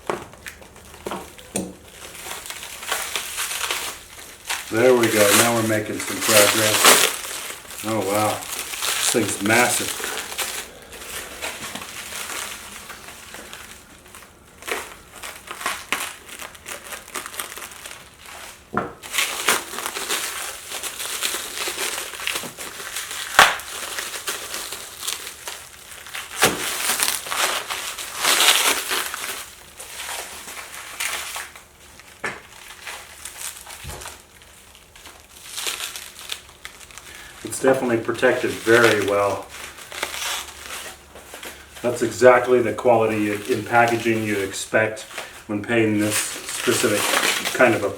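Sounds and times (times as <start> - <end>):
packaging crinkling: 0.0 - 47.9.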